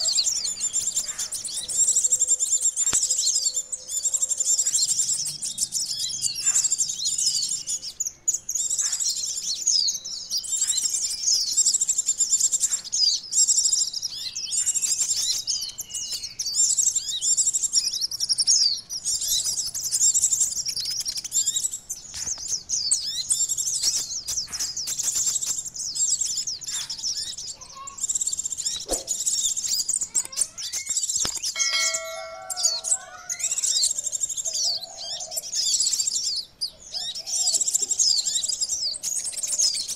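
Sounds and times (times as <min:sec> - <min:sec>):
lower steady bird call: 0:00.0 - 0:39.9
sunbirds twittering: 0:00.0 - 0:39.9.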